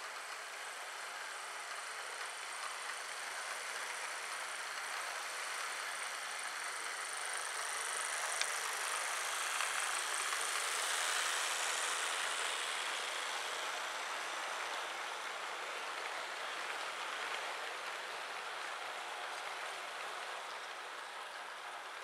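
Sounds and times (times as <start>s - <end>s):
model train motors whirring: 0.0s - 22.0s
wheels rolling over track: 0.2s - 22.0s.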